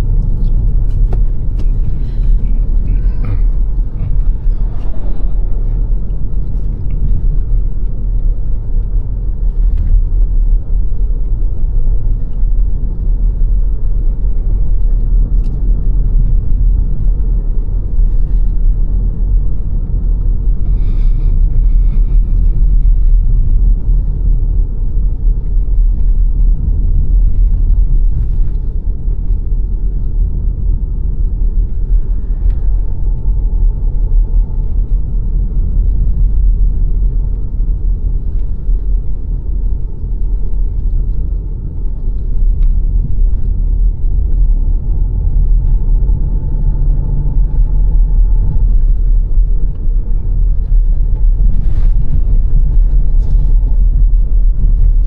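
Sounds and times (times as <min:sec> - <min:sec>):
car engine running: 0:00.0 - 0:55.0
tyres rumbling on road: 0:00.0 - 0:55.0.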